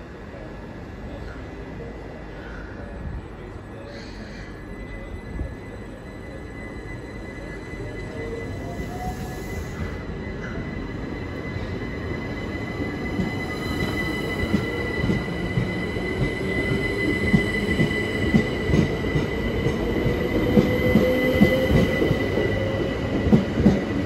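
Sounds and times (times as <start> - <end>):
train rumble: 0.0 - 24.0
steady high-pitched tones: 2.7 - 24.0.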